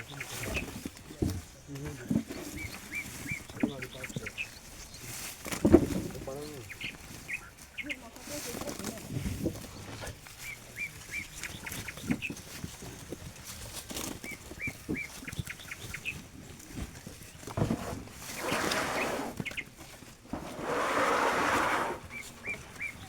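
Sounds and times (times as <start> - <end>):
birds chirping: 0.0 - 5.4, 6.2 - 8.4, 9.6 - 12.6, 14.1 - 16.4, 17.1 - 23.0
rustling noise: 0.0 - 23.0.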